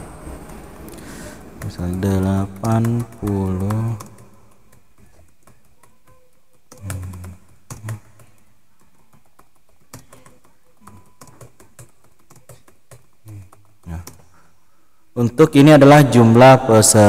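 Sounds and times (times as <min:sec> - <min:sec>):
typing on computer keyboard: 0:00.4 - 0:14.4.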